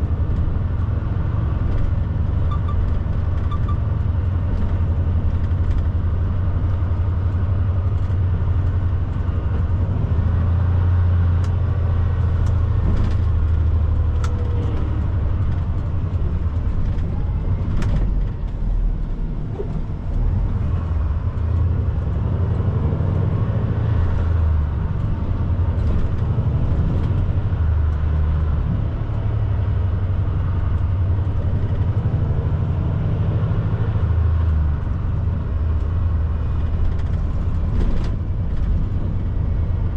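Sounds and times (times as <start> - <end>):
diesel truck engine rumble: 0.0 - 39.9.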